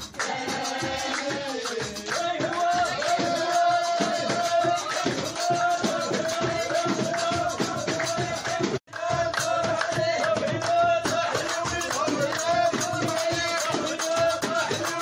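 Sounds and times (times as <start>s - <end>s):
hand drum beating: 0.0s - 15.0s
hands clapping in rhythm: 0.0s - 15.0s.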